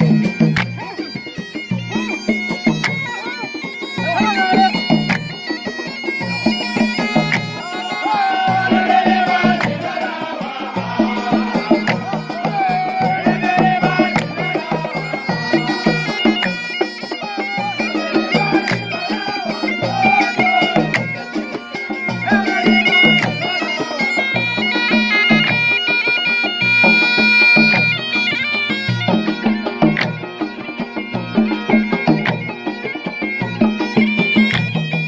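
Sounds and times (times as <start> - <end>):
drums beating steady rhythm: 0.0 - 35.0
wavering melody: 0.0 - 35.0.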